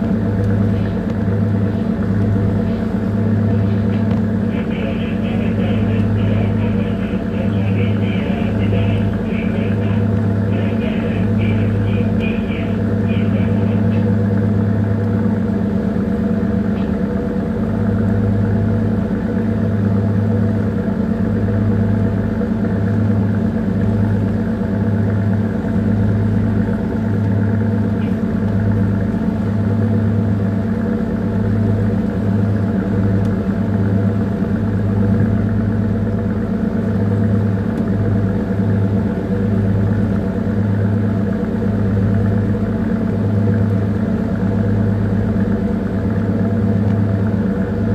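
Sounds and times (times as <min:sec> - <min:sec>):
ship engine droning: 0:00.0 - 0:47.9.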